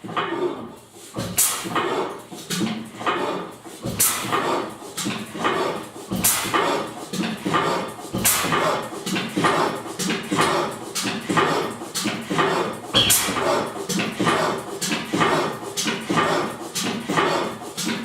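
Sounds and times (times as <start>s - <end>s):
gas engine running: 1.2s - 18.0s
loud exhaust beat: 1.2s - 18.0s.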